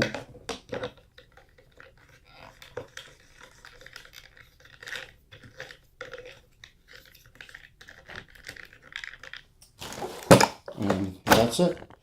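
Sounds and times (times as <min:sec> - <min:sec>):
plastic parts clicking and scraping: 0:00.0 - 0:12.0.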